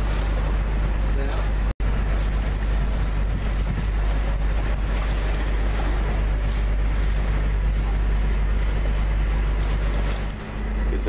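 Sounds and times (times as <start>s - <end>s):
wind rumbling on microphone: 0.0s - 10.9s
boat engine running: 0.0s - 11.0s
water rushing along hull: 0.0s - 11.0s.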